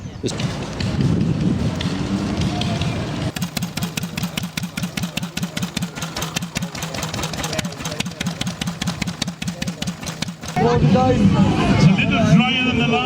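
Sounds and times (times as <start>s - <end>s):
engine idling: 0.3s - 12.6s.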